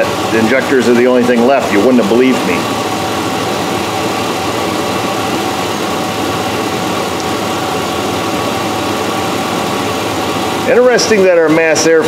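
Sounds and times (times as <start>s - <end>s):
pickup engine idling: 0.0s - 11.6s.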